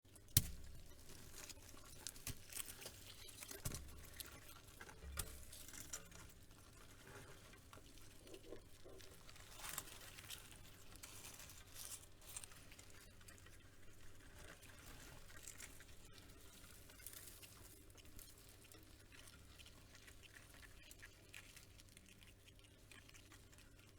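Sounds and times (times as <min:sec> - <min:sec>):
faint scratching and crackling: 0:00.1 - 0:23.9.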